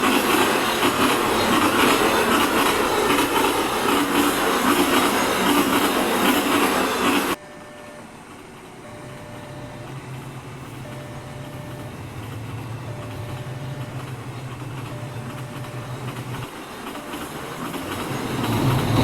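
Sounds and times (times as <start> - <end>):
train wheels rumbling on rails: 0.0 - 7.4, 8.2 - 19.0.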